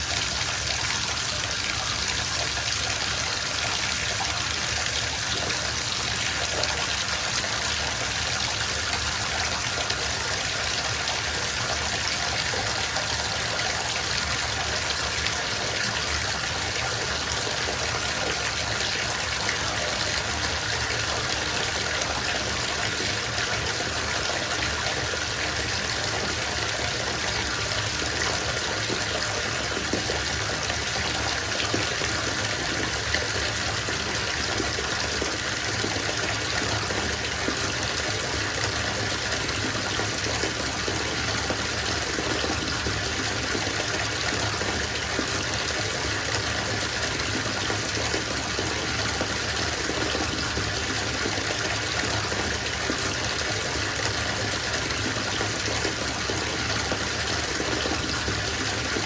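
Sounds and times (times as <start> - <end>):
water running into bathtub: 0.0 - 59.0.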